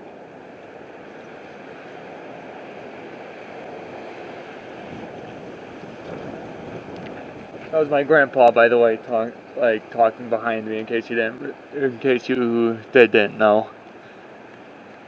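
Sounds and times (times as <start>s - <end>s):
strong wind blowing: 0.0s - 14.9s.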